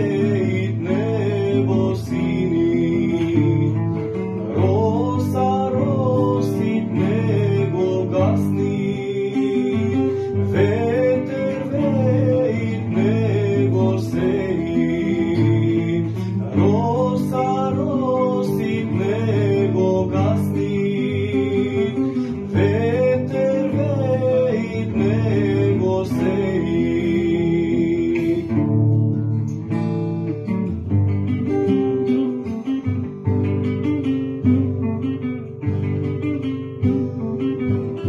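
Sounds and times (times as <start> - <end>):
solo guitar melody: 0.0 - 38.0
strummed rhythm guitar: 0.0 - 38.0.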